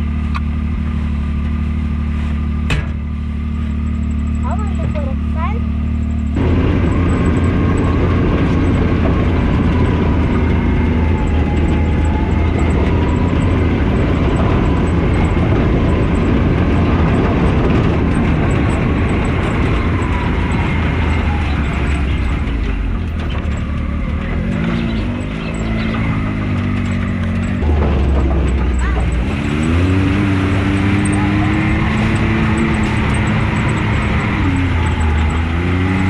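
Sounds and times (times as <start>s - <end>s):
rumble of wind and trail noise: 0.0s - 36.0s
vehicle engine running: 0.0s - 36.0s.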